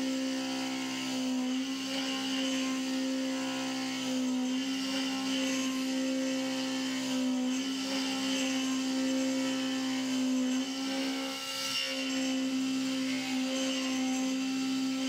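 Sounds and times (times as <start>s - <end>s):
milling spindle whine: 0.0s - 15.0s.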